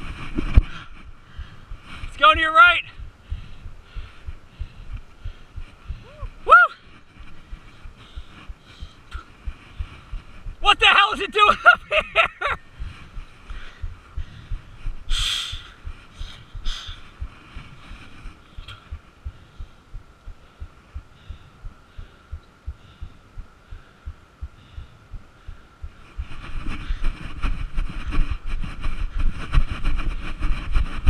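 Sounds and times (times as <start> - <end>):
jogging footsteps: 0.0 - 31.0.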